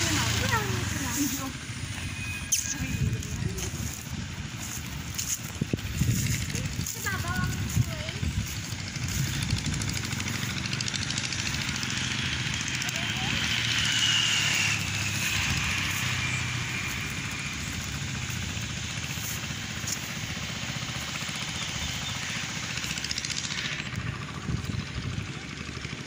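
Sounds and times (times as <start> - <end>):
outdoor noise: 0.0 - 26.0
vehicle engine humming: 0.0 - 26.0.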